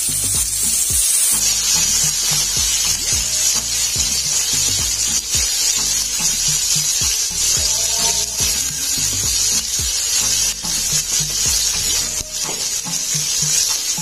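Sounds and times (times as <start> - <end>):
chilies sizzling in a wok: 0.0 - 14.0
music with deep bass beat: 0.0 - 14.0.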